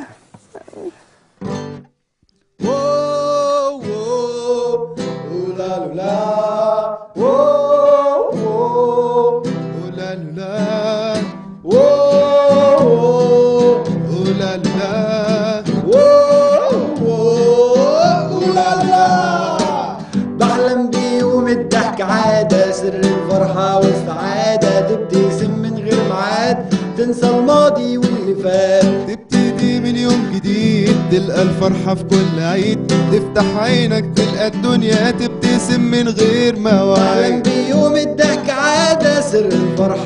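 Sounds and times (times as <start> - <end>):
strummed acoustic guitar: 1.4 - 2.0, 2.6 - 40.0
person singing: 2.6 - 40.0.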